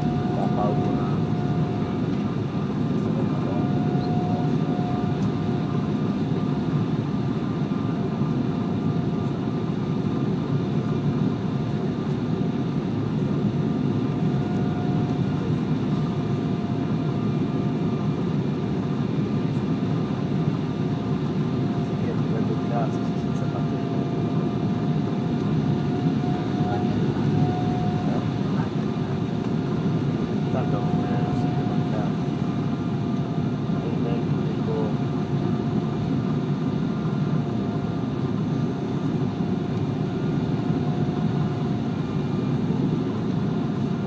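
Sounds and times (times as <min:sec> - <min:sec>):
jet engine hum: 0:00.0 - 0:44.0
thin engine whine: 0:00.0 - 0:44.0.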